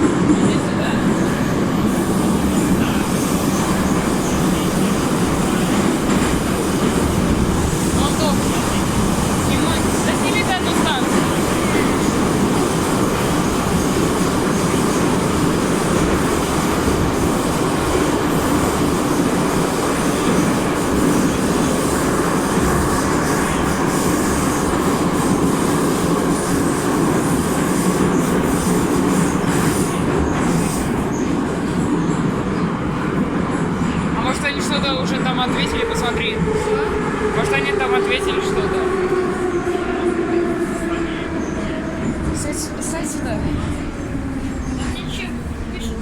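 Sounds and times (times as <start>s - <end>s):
metro wheels rumbling on rails: 0.0s - 46.0s.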